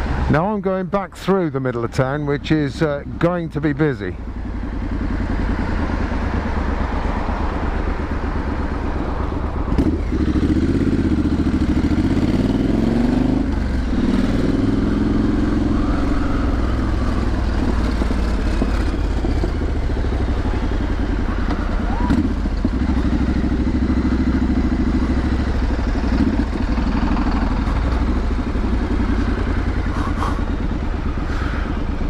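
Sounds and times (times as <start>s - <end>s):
motorcycle engine running: 1.9s - 32.0s.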